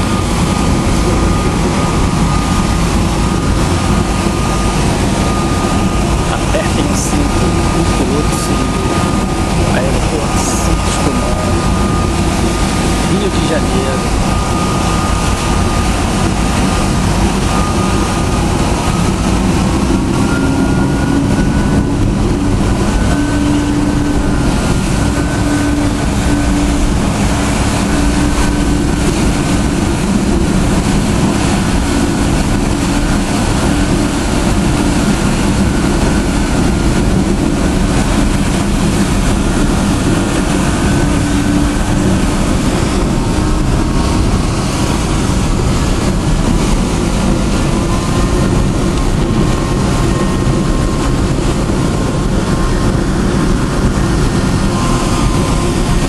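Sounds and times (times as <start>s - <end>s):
ferry engines droning: 0.0s - 56.0s
rush of wind and water: 0.0s - 56.0s.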